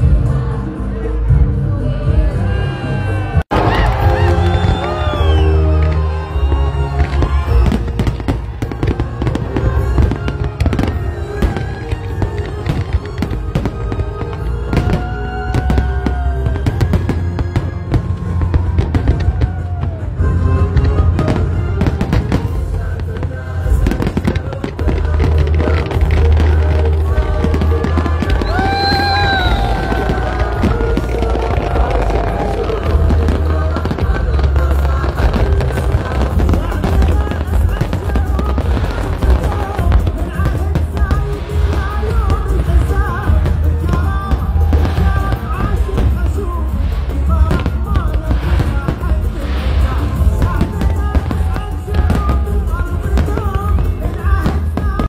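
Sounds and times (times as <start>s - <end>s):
music: 0.0s - 55.0s
singing over heavy bass beat: 0.0s - 55.0s
fireworks bursting: 3.4s - 55.0s.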